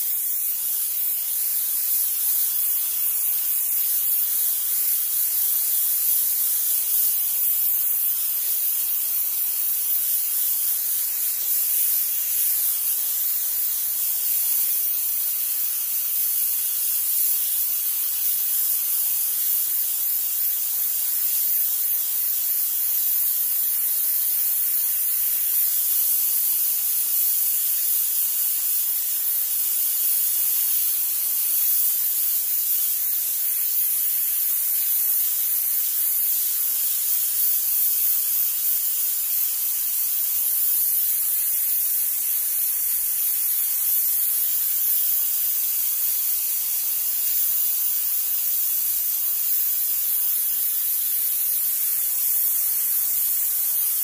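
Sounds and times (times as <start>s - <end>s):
steam cleaner hissing: 0.0s - 54.0s.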